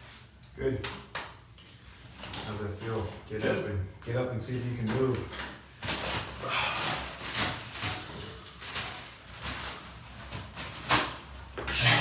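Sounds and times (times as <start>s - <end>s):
rustling and shuffling: 1.3s - 12.0s.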